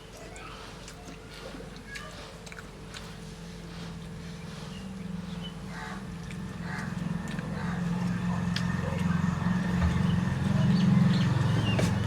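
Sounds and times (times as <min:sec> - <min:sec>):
chewing with mouth clicks: 0:00.0 - 0:12.0.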